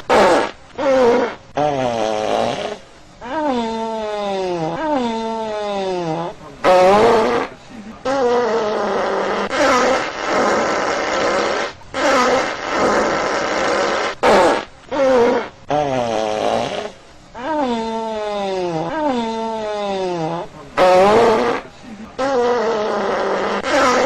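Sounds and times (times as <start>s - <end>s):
fart sound effects: 0.0s - 7.5s, 8.1s - 24.0s.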